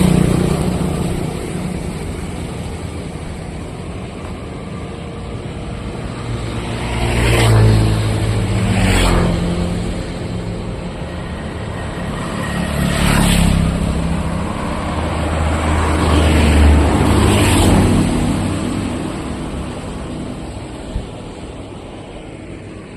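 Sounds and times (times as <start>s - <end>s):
road noise: 0.0s - 22.9s
vehicles passing close by: 0.0s - 22.9s.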